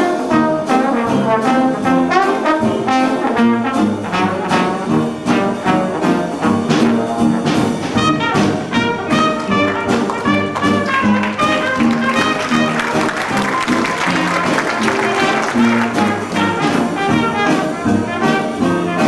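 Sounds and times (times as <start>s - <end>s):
jazz band playing: 0.0s - 19.0s
trombone: 0.0s - 19.0s
trumpet: 0.0s - 19.0s.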